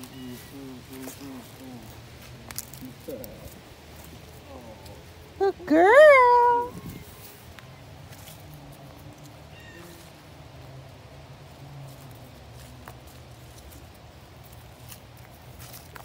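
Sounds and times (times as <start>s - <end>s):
footsteps on leafy dirt trail: 0.0s - 5.1s, 5.9s - 16.0s.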